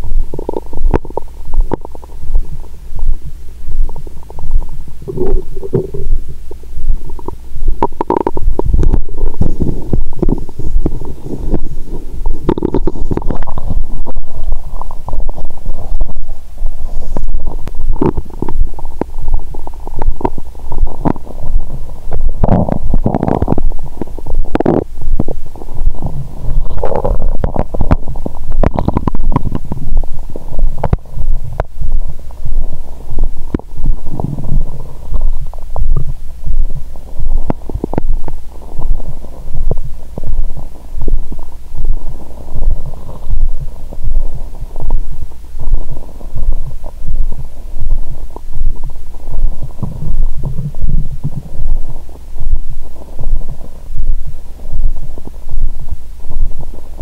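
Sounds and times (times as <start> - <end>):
steady low pulse: 0.0 - 57.0
stomach gurgling and rumbling: 0.0 - 57.0.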